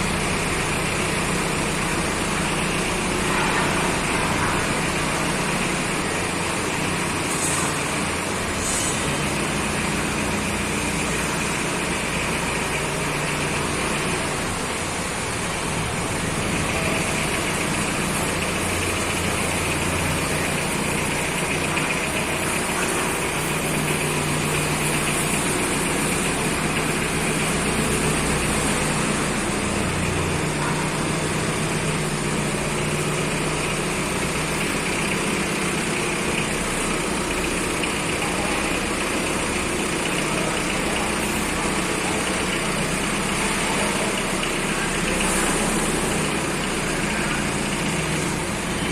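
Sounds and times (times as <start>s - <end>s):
forklift engine running: 0.0s - 48.9s.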